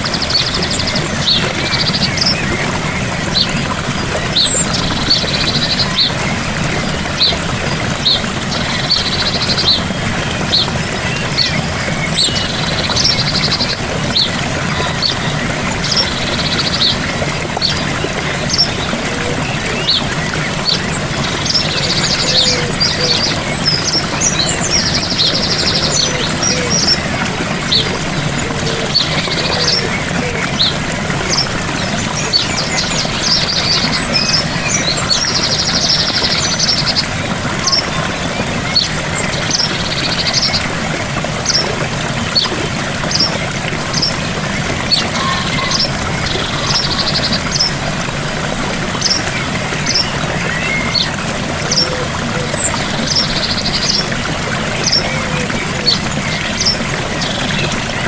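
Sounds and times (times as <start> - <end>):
songbirds chirping: 0.0 - 58.0
waterfall rushing: 0.0 - 58.0.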